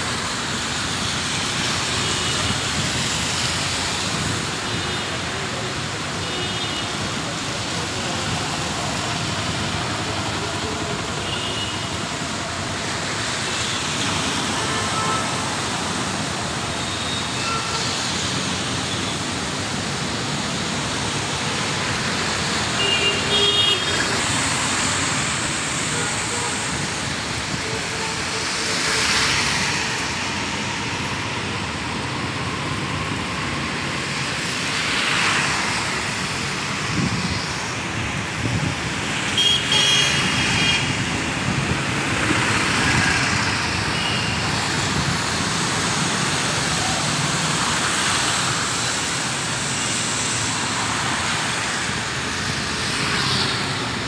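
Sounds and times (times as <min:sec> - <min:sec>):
tyres hissing on wet road: 0:00.0 - 0:54.0
vehicles passing: 0:00.0 - 0:54.0.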